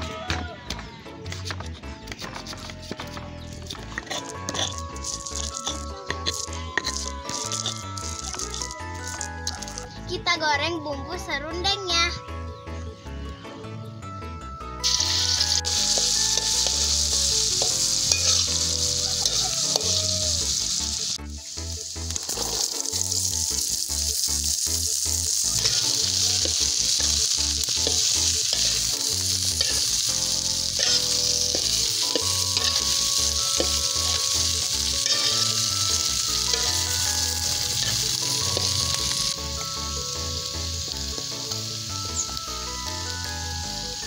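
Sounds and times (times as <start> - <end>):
green beans sizzling while stir-fried: 2.0 - 10.1, 14.8 - 44.0
hot oil sizzling in a wok: 2.8 - 10.0, 14.8 - 44.0.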